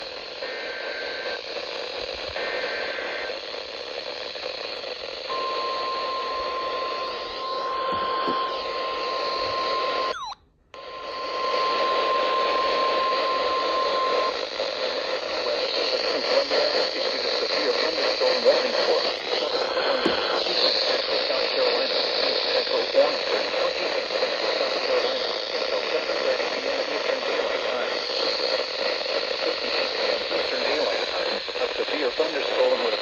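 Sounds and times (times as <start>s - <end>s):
data header bursts: 0.0s - 33.0s
radio static hiss: 0.0s - 33.0s.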